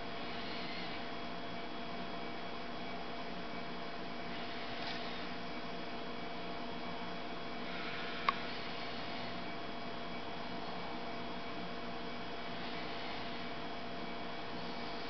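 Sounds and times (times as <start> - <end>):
electrical hum and hiss: 0.0 - 15.0.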